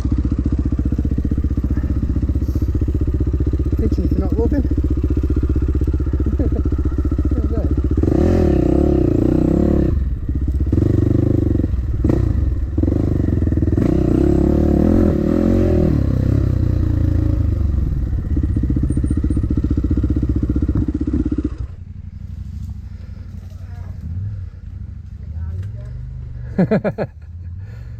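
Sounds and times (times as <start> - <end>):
dirt bike engine revving: 0.1 - 27.0.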